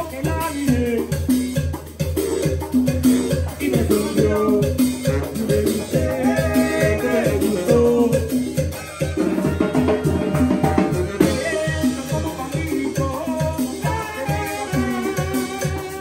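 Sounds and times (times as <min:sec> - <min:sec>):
brass band playing: 0:00.0 - 0:16.0
tuba bass pulsing: 0:00.0 - 0:16.0.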